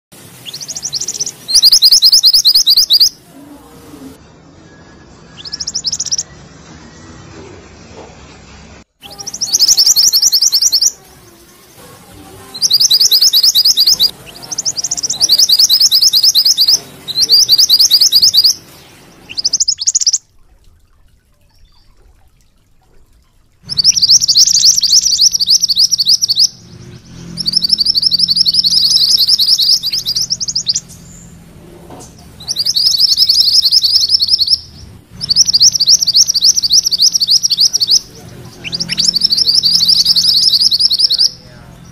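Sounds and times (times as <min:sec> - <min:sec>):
bird singing rolling trill: 0:00.4 - 0:07.2, 0:09.0 - 0:41.9.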